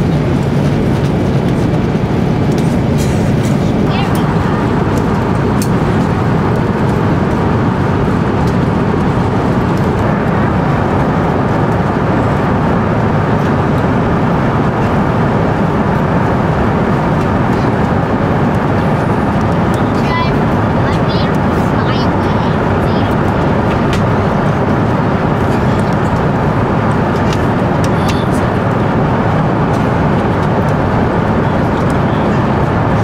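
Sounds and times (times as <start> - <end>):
airliner cabin noise: 0.0 - 33.0.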